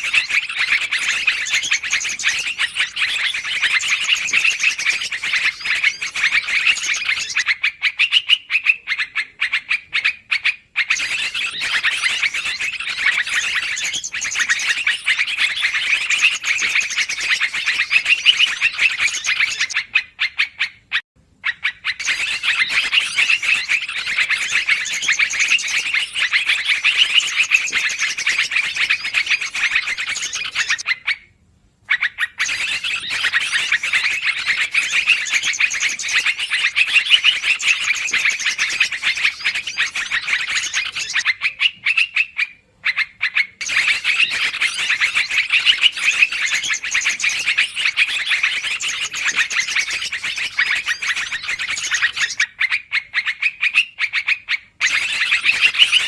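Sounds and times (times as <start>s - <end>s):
recorded bird chattering calls: 0.0s - 56.0s.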